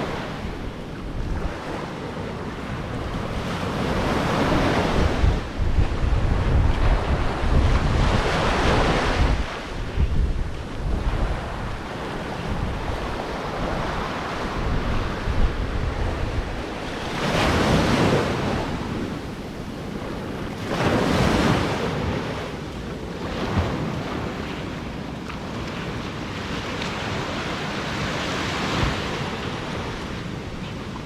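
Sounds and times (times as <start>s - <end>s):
ocean waves breaking on beach: 0.0s - 31.0s
wind buffeting microphone: 0.0s - 31.0s.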